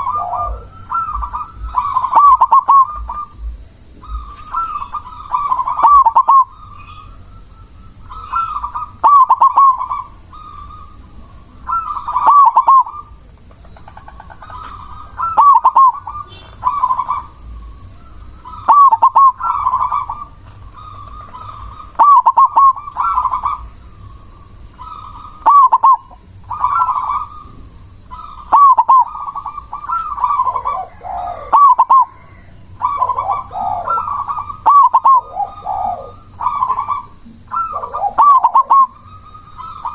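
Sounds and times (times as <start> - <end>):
dove cooing: 0.0 - 7.2, 7.9 - 39.9.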